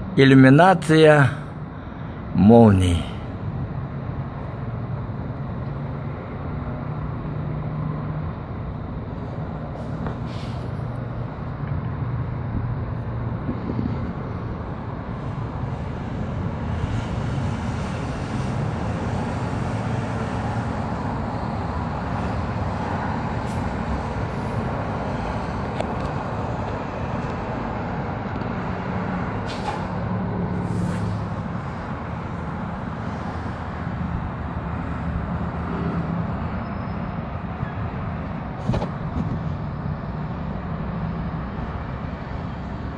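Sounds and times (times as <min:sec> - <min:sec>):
distant city traffic: 0:00.0 - 0:42.9.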